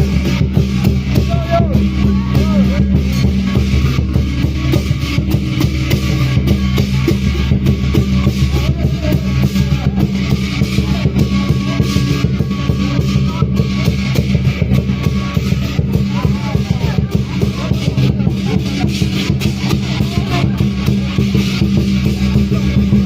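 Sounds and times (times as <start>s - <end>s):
loud music with fast drumming: 0.0s - 23.0s.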